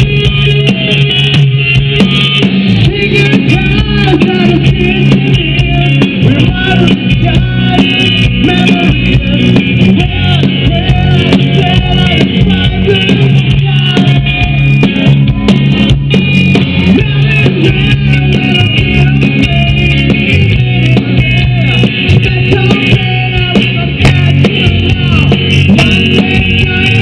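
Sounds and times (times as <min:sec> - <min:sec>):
rock music with guitars: 0:00.0 - 0:27.0
person singing: 0:02.2 - 0:15.4, 0:16.8 - 0:27.0.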